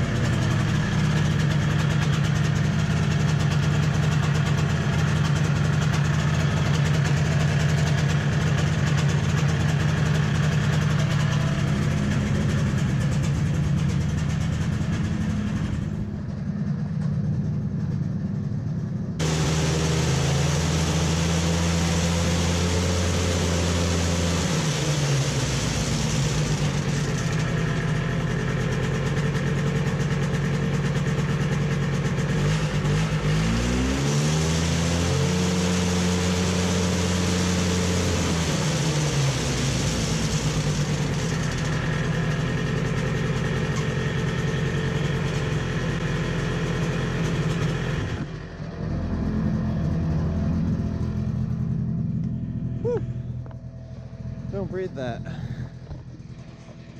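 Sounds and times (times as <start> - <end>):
snowmobile engine revving: 0.0 - 16.1, 19.2 - 56.7.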